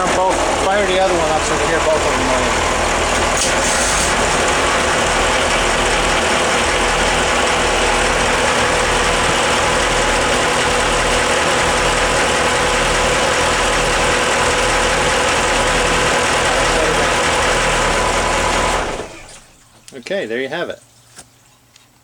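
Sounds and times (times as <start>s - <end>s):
diesel engines idling: 0.0s - 20.7s.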